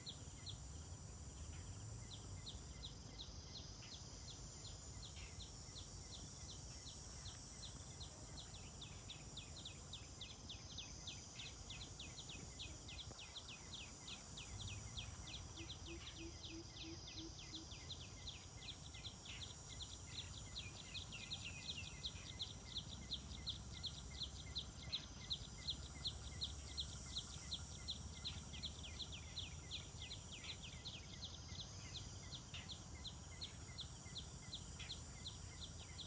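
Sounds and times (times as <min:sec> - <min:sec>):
insect-like hiss: 0:00.0 - 0:36.0
bird chirping: 0:01.4 - 0:36.0.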